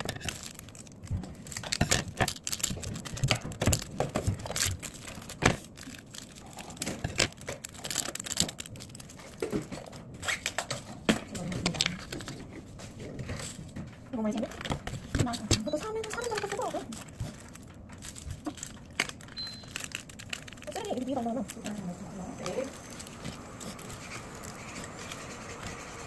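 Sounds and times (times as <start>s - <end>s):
plastic packets crinkling: 0.0s - 25.4s.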